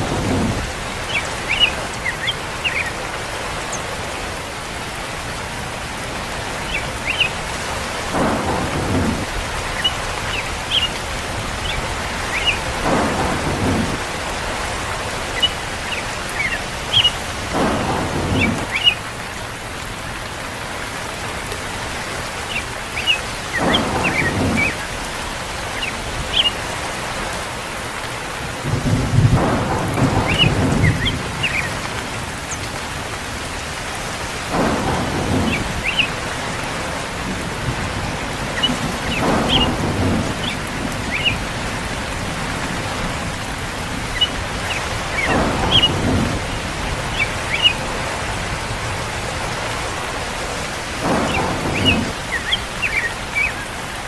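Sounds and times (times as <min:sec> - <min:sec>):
steady rain: 0:00.0 - 0:54.0
thunder rolling: 0:00.0 - 0:54.0.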